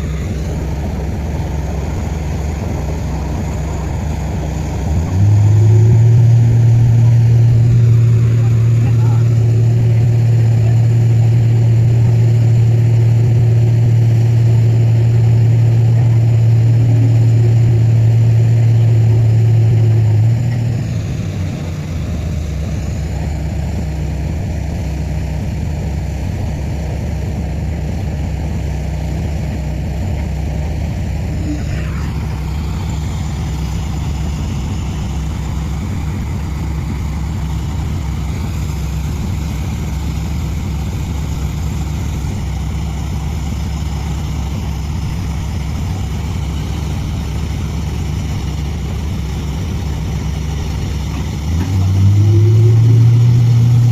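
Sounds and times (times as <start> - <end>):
drilling rig low hum: 0.0 - 53.9
high whine falling in pitch: 0.0 - 53.9.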